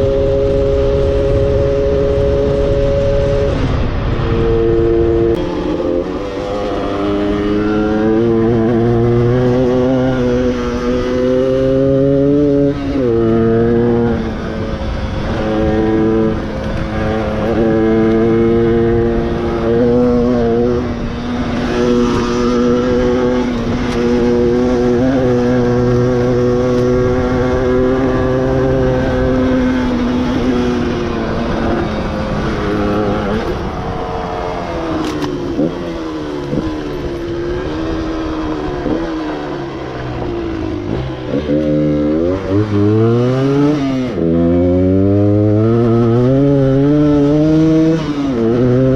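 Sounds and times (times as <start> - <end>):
two-stroke motorcycle engine: 4.4 - 48.9.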